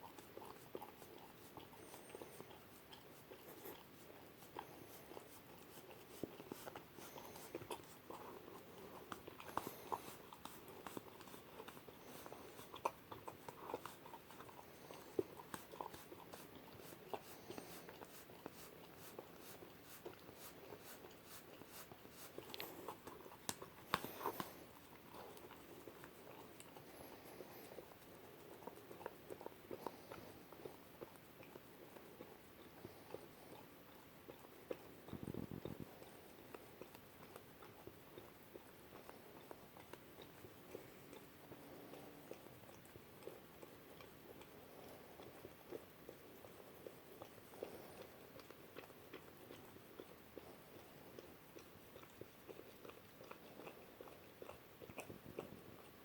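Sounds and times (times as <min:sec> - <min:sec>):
puppy licking and chewing: 0:00.0 - 0:56.0.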